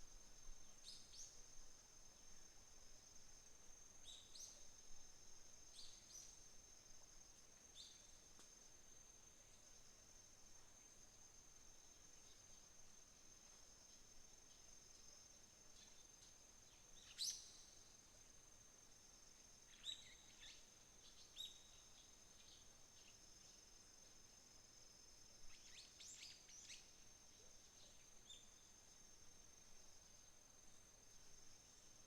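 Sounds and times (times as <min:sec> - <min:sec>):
insect trill: 0:00.0 - 0:32.0.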